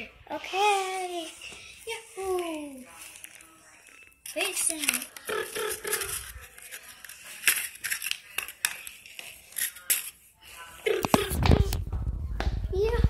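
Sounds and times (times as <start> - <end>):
toy and cardboard tube on concrete: 0.0 - 13.0.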